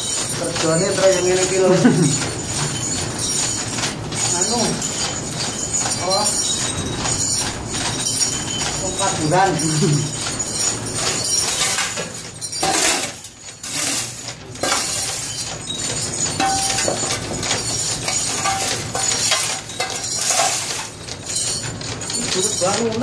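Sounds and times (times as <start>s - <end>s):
scrap metal clinking and scraping: 0.0s - 23.0s.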